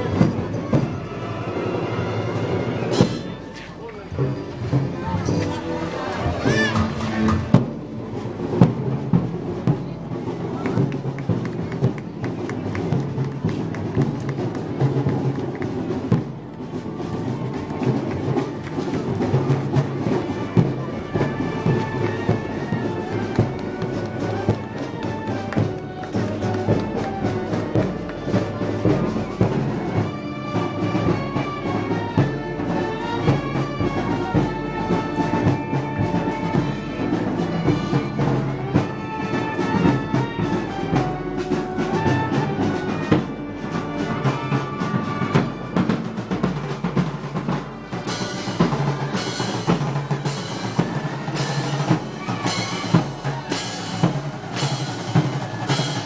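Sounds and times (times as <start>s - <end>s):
brass band playing parade music: 0.0s - 56.0s.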